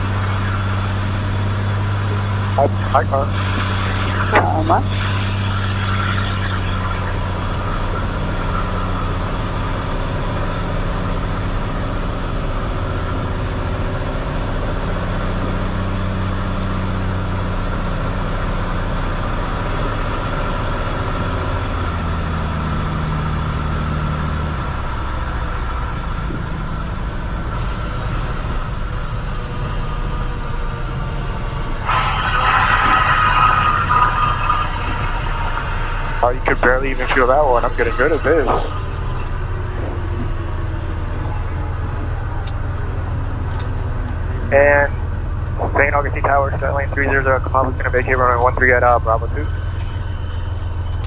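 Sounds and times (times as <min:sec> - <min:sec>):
propeller plane engine droning: 0:00.0 - 0:51.0.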